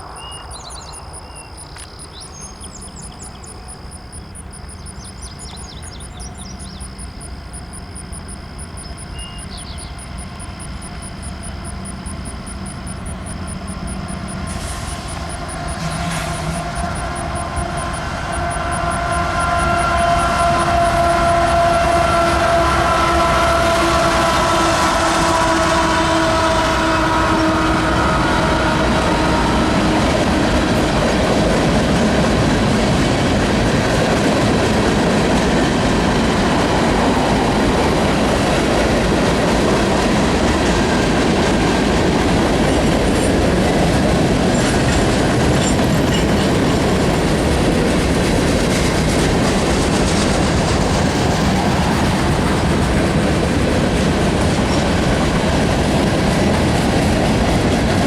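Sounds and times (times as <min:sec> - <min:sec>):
train wheels on rails: 0:00.0 - 0:58.0
locomotive horn: 0:04.0 - 0:58.0.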